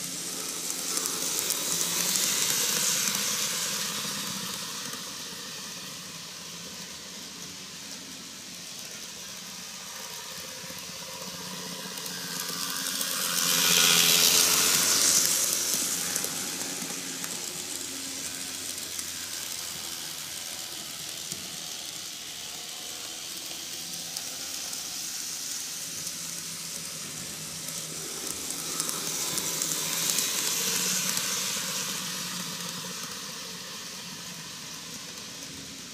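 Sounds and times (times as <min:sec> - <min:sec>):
model train running on track: 0:00.0 - 0:35.9.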